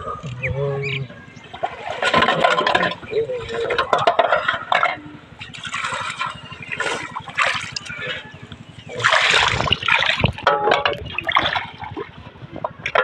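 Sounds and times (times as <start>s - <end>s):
water splashing from wading: 0.4s - 13.0s.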